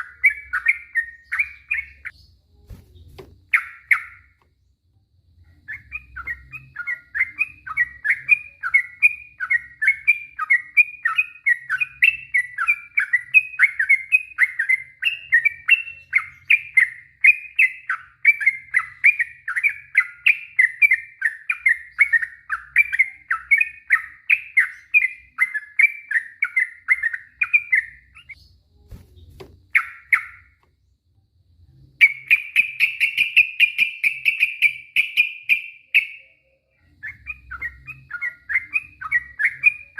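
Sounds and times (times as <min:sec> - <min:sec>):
bird chattering song: 0:00.0 - 0:04.4, 0:05.5 - 0:30.7, 0:32.0 - 0:39.9.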